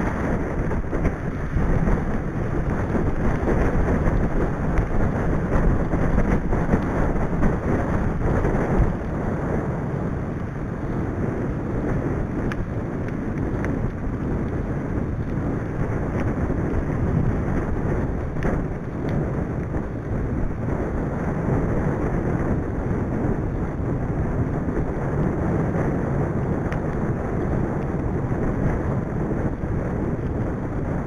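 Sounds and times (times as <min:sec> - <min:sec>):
bike tyres on tarmac: 0:00.0 - 0:31.0
wind buffeting microphone: 0:00.0 - 0:31.0.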